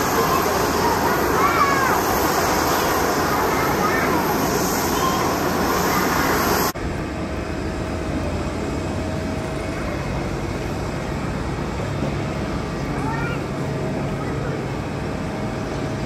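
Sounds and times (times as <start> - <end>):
airport apron rumble: 0.0 - 16.0.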